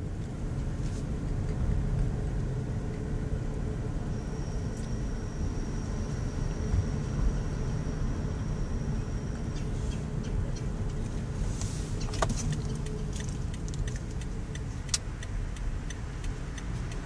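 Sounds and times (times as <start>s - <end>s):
road and wind rumble in car: 0.0s - 17.0s
faint high steady whine: 0.8s - 14.8s.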